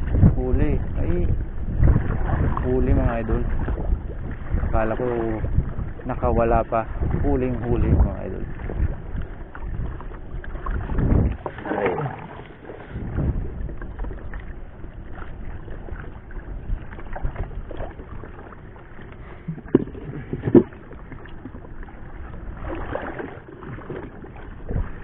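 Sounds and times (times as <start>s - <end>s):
wind rumble on microphone: 0.0s - 25.0s
knocks and rubbing of gear in boat: 1.7s - 25.0s.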